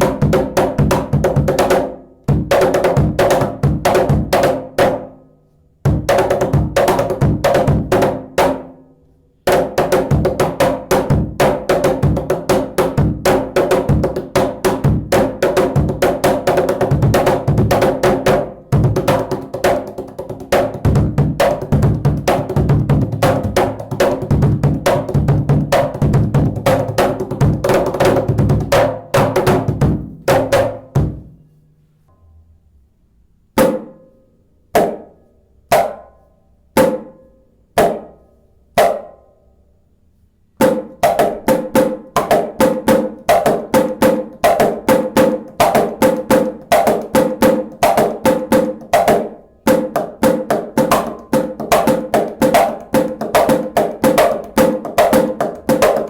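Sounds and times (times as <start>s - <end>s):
hand drum strikes: 0.0s - 5.1s, 5.9s - 8.7s, 9.5s - 31.4s, 40.6s - 56.0s.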